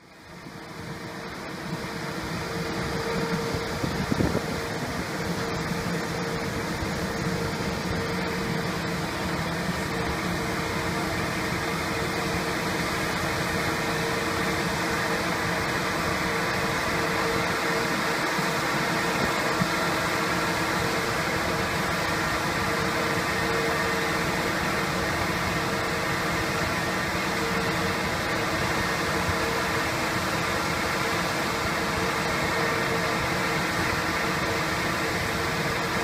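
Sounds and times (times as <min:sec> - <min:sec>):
fan humming: 0:00.0 - 0:36.0.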